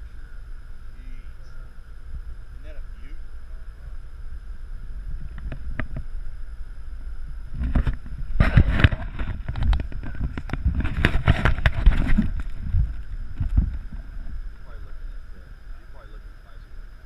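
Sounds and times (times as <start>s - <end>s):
wind on microphone: 0.0s - 15.4s.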